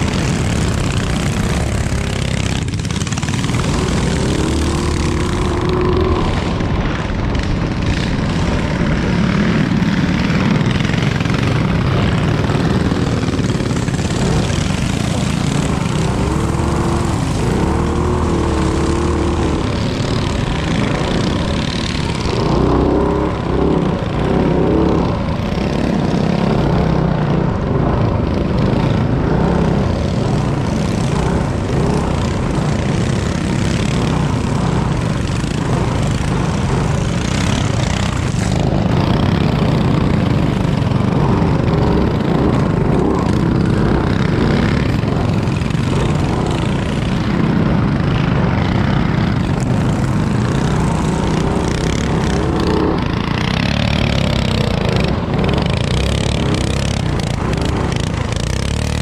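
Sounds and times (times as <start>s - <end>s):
minibike engines running hard: 0.0s - 59.0s.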